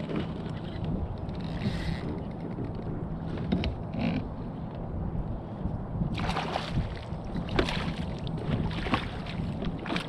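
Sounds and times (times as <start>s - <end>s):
water splashing around kayak: 0.0s - 4.6s, 6.1s - 10.0s
wind on microphone: 0.0s - 10.0s.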